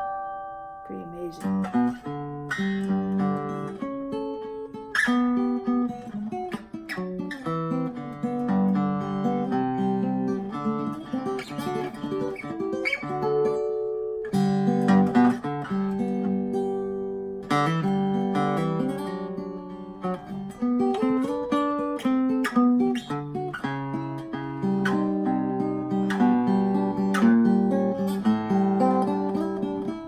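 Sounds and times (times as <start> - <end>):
acoustic guitar chords and picking: 0.0 - 30.0.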